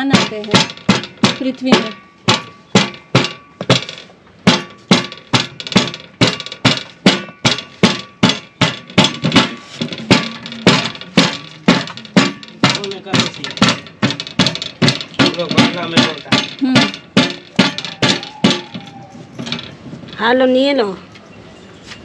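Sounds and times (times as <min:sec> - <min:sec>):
pestle pounding on metal tray: 0:00.0 - 0:20.4
metal tray ringing: 0:00.0 - 0:20.5.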